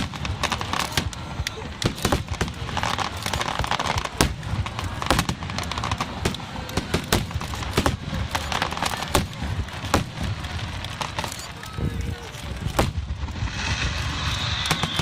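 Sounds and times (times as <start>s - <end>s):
fireworks crackle: 0.0s - 15.0s
fireworks shells exploding: 0.0s - 15.0s.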